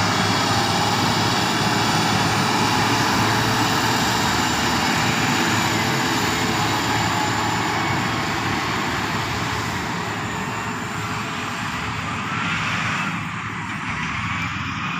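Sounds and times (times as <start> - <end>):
heavy diesel machinery engine drone: 0.0 - 14.9.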